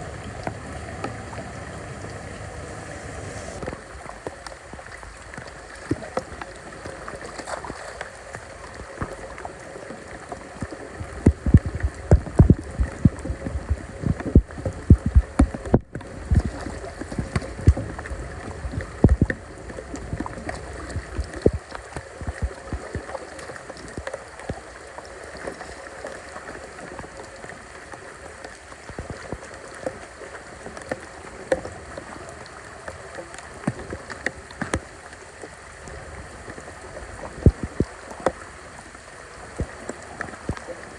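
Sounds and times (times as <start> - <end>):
water running and gurgling: 0.0 - 40.9
water splashing: 0.0 - 40.9.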